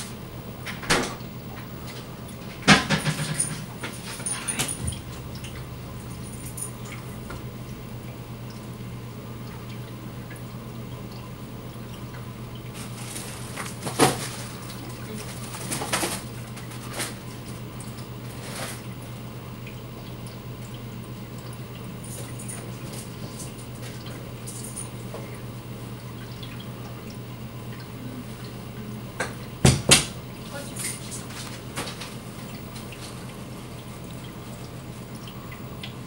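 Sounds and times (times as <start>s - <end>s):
aquarium filter humming: 0.0s - 36.0s
water trickling and dripping: 0.1s - 36.0s.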